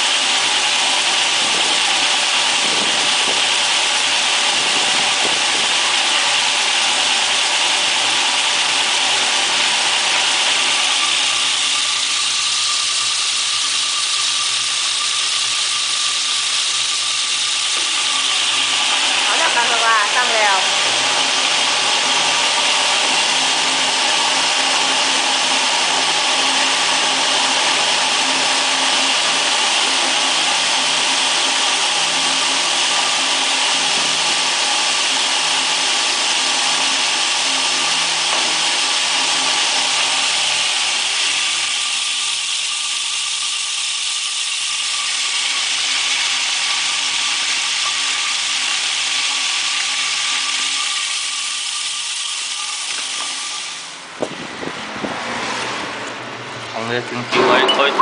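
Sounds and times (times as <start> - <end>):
material whirling in drum: 0.0 - 50.9
electric mixer motor humming: 0.0 - 54.1.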